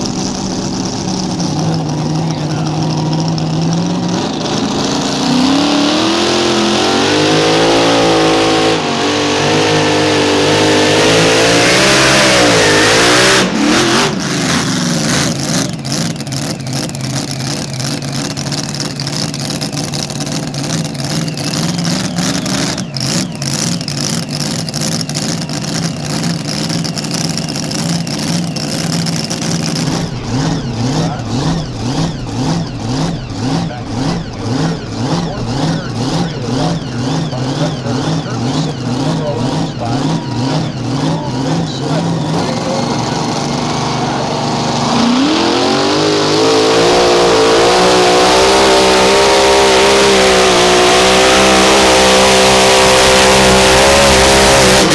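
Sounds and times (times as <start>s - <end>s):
engine running at low revs: 0.0s - 54.9s
tractor engine at full throttle: 0.0s - 54.9s.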